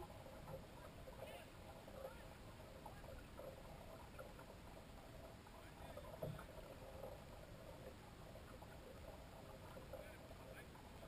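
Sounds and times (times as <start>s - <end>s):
water lapping against wooden hull: 0.0s - 11.0s.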